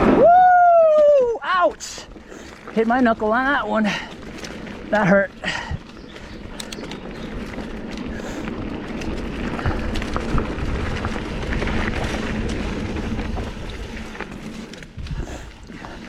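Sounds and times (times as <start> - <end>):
tyres rolling over dirt and stones: 0.0 - 16.0
bike rattling and knocking: 0.3 - 16.0.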